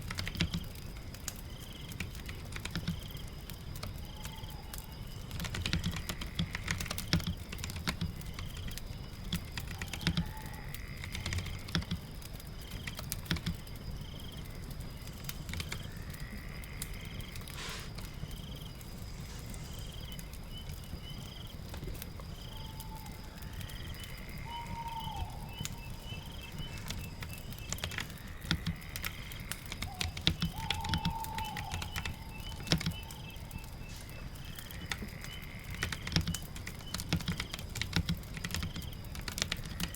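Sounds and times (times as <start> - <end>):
crackling fire: 0.0 - 39.9
rain: 0.0 - 39.9.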